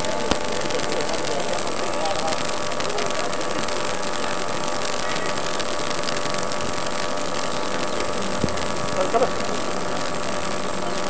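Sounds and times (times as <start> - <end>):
high whine: 0.0 - 11.0
steady hiss: 0.0 - 11.0.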